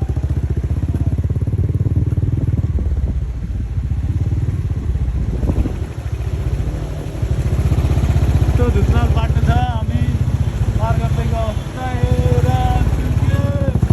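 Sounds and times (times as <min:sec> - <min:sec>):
motorcycle engine running: 0:00.0 - 0:13.9
road and wind noise: 0:00.0 - 0:13.9.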